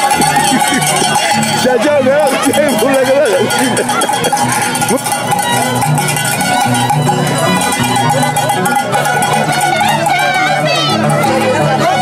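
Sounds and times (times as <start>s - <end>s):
live folk string music: 0.0s - 12.0s.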